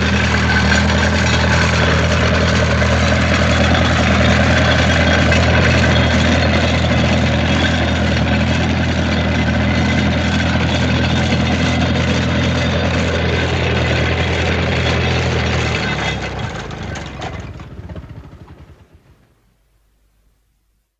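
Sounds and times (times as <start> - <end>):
tractor engine running: 0.0 - 19.5.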